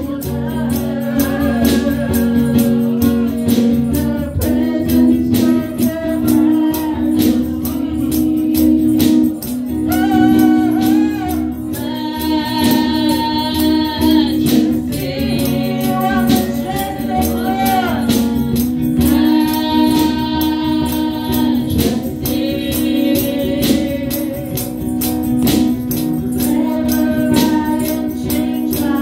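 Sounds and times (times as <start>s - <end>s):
even percussive beat: 0.0s - 29.0s
woman singing into microphone: 0.0s - 29.0s.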